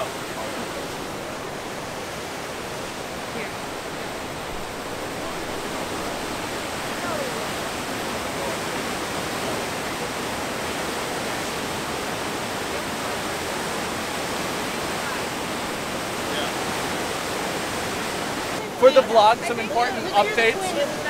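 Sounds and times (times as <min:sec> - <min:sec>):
whitewater roaring through gorge: 0:00.0 - 0:21.0.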